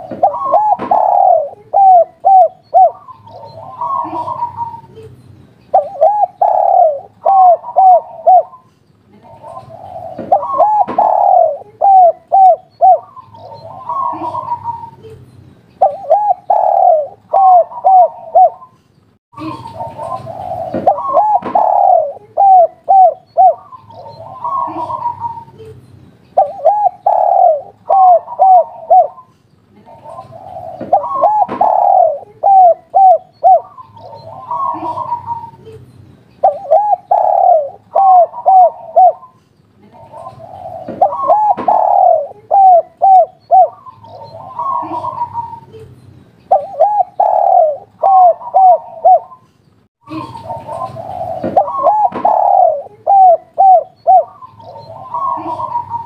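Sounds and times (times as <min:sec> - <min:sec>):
dove cooing: 0:00.0 - 0:05.1, 0:05.7 - 0:15.2, 0:15.8 - 0:18.8, 0:19.4 - 0:25.8, 0:26.4 - 0:35.8, 0:36.4 - 0:45.8, 0:46.5 - 0:49.4, 0:50.1 - 0:56.0.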